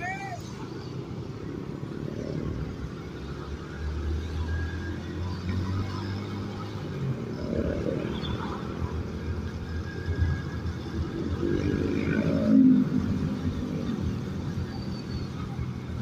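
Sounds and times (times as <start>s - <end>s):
nearby vehicle engines: 0.0s - 16.0s
road noise: 0.0s - 16.0s.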